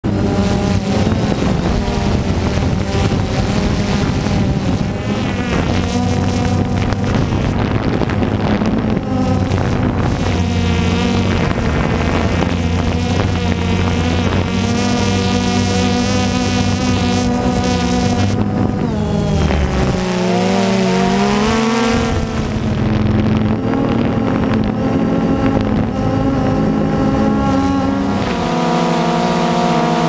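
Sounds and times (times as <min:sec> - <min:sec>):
drone motors buzzing: 0:00.0 - 0:30.0
wind buffeting microphone: 0:00.0 - 0:30.0.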